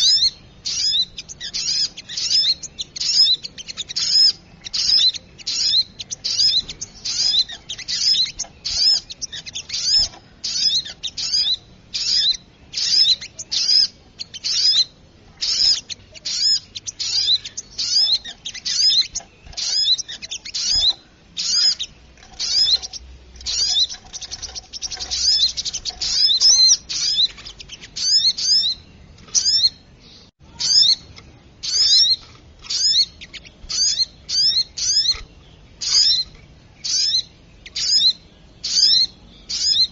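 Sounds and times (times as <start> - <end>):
bird calling high chipping notes: 0.0 - 39.9.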